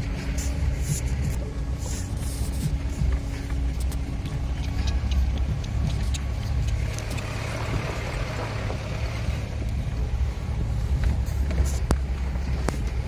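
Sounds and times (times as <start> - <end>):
car engine droning: 0.0 - 13.0
tyres crunching on gravel: 0.0 - 13.0.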